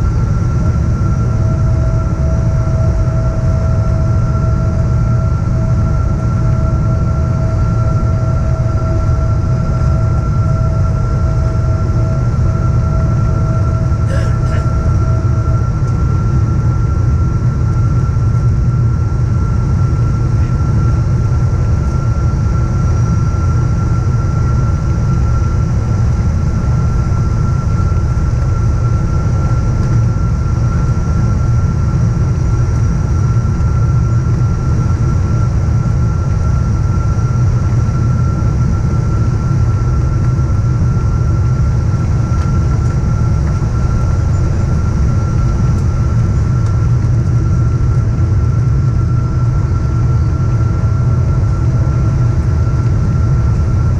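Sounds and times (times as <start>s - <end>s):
airplane cabin engine rumble: 0.0s - 53.9s
high whine: 0.0s - 53.9s
lower whine: 0.0s - 53.9s.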